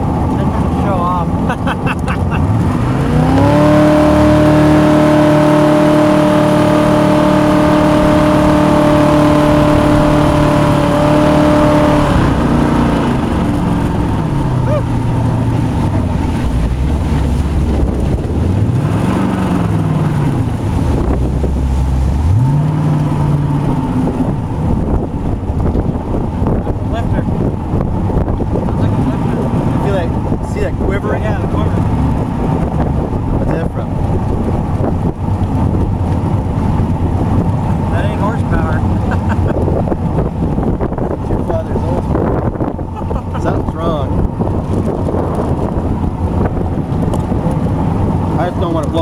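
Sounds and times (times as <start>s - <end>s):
boat engine at full throttle: 0.0s - 49.0s.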